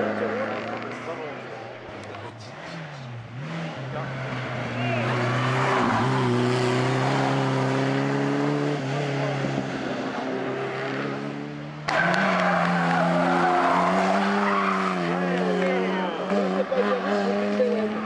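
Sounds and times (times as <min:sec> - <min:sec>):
car engine pulling hard uphill: 0:00.0 - 0:18.0
race car engine passing: 0:00.0 - 0:18.0.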